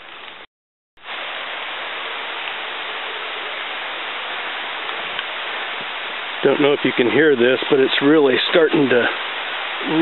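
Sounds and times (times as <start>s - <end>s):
heavy rain on jungle canopy: 0.0s - 10.0s.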